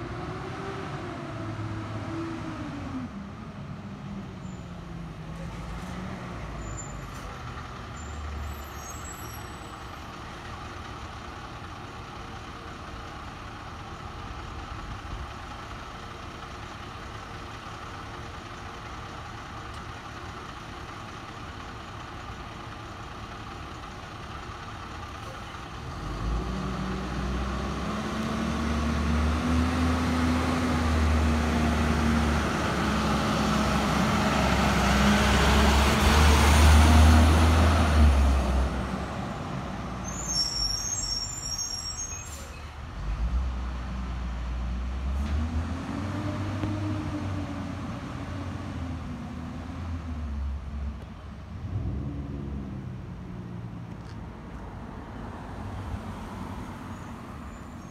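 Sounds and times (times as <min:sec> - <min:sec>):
bus diesel engine: 0:00.0 - 0:57.9.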